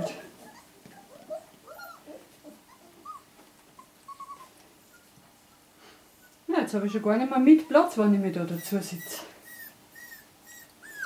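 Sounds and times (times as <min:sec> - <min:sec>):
puppies whimpering: 0:00.1 - 0:11.0.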